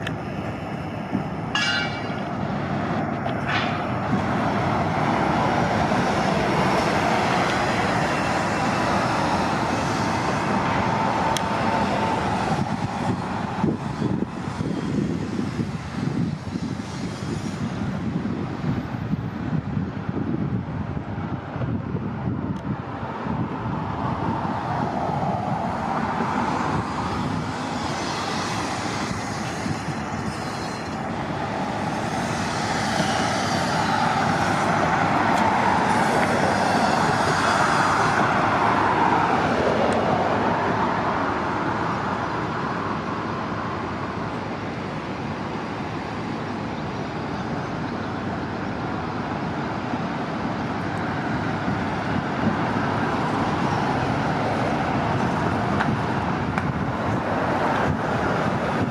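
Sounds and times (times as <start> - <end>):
buses passing: 0.0 - 58.9.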